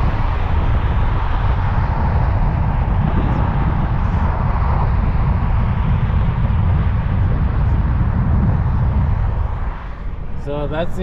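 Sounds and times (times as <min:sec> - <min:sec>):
car driving at speed: 0:00.0 - 0:11.0.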